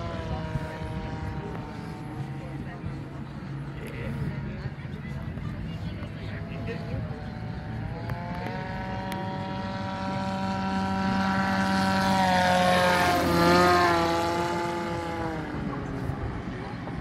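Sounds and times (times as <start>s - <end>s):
model aircraft propeller whine: 0.0s - 17.0s.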